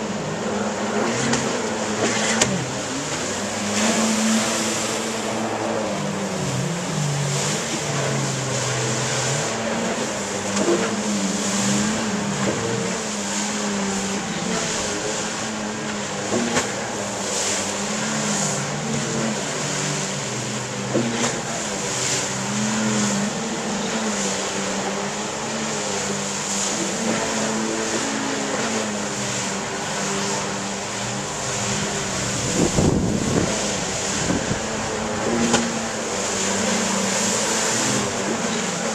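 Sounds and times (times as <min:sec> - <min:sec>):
jet ski engines revving: 0:00.0 - 0:38.9
water noise: 0:00.0 - 0:38.9.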